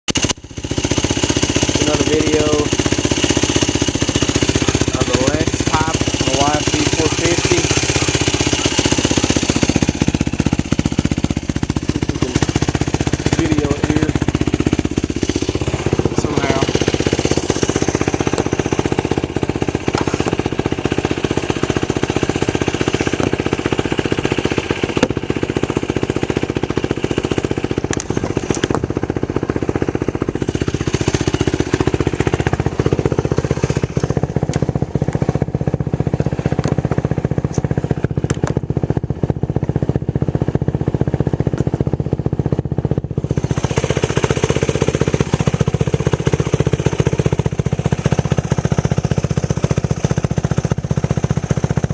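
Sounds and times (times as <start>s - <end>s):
quad engine running loudly: 0.1s - 51.9s.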